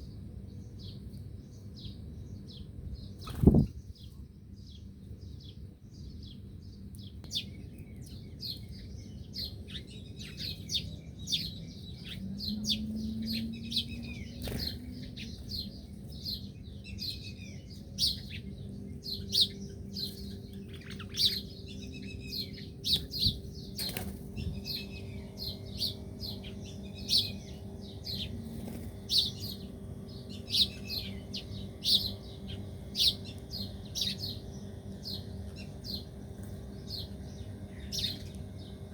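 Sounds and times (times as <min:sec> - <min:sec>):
faint low hum: 0:00.0 - 0:38.9
small birds chirping: 0:00.0 - 0:38.9.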